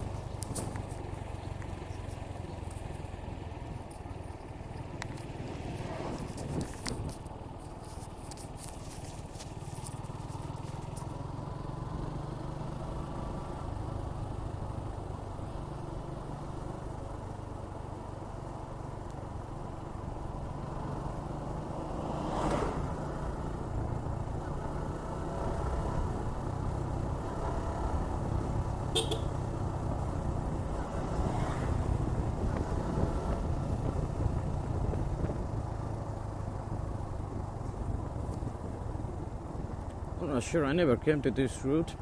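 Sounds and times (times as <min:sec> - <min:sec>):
motorcycle engine running: 0:00.0 - 0:22.0, 0:22.7 - 0:40.2.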